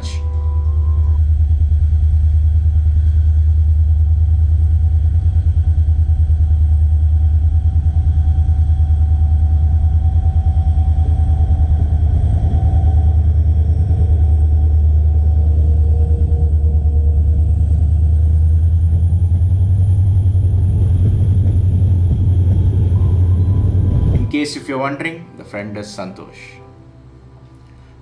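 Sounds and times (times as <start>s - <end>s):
diesel locomotive engine rumble: 0.0s - 24.4s.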